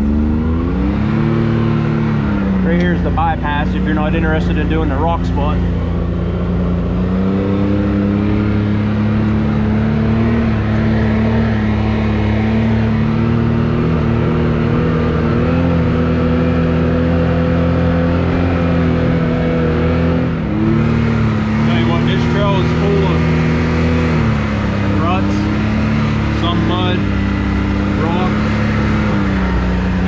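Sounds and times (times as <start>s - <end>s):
off-road vehicle engine running: 0.0s - 30.0s.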